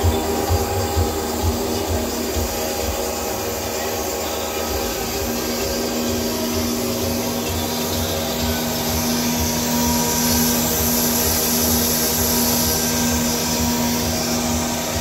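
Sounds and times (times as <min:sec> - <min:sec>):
electric motor whirring: 0:00.0 - 0:15.0
low pulsing throb: 0:00.0 - 0:15.0.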